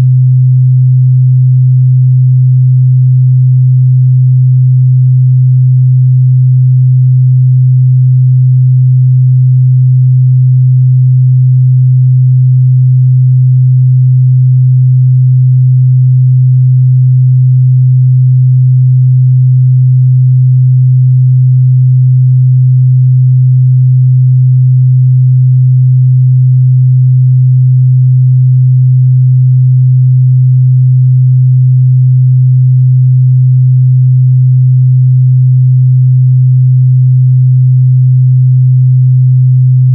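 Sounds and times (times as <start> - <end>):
low sine-wave test tone: 0.0 - 39.9.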